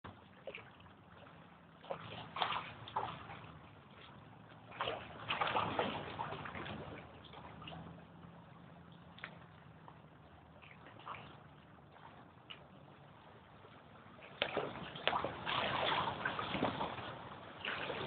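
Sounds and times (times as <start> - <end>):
low steady hum: 0.0 - 18.0
waves sloshing and gurgling: 0.0 - 18.0.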